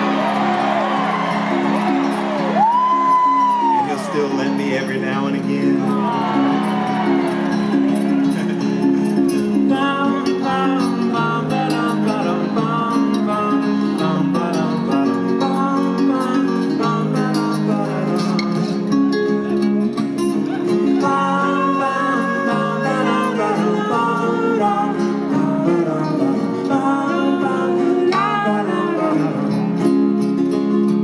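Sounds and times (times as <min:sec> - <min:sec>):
acoustic guitar with sliding notes: 0:00.0 - 0:31.0
live folk-rock band playing: 0:00.0 - 0:31.0.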